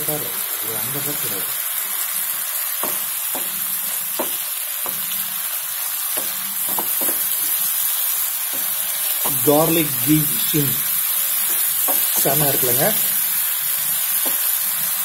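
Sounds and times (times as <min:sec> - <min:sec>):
shrimp sizzling in a pan: 0:00.0 - 0:15.0.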